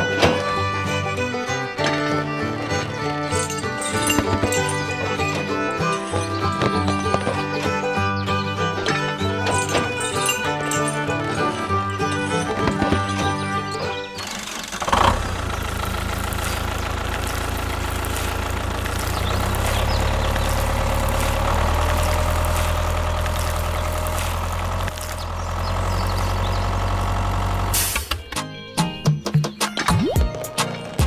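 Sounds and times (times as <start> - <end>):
engine idling: 0.0 - 28.3.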